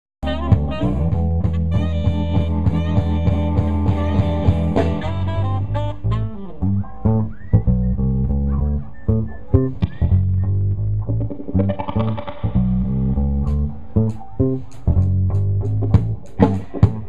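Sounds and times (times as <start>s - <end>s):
heavy bass line: 0.2s - 17.0s
live funk band playing: 0.2s - 17.0s.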